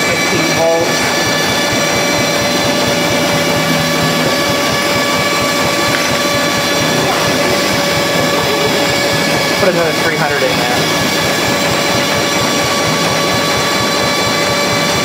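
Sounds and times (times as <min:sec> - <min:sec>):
generator mechanical whir: 0:00.0 - 0:15.0
steady high tones: 0:00.0 - 0:15.0.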